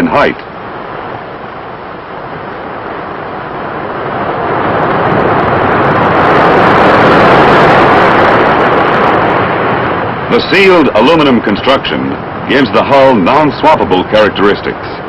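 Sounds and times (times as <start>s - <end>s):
heavy surf breaking: 0.0s - 15.0s.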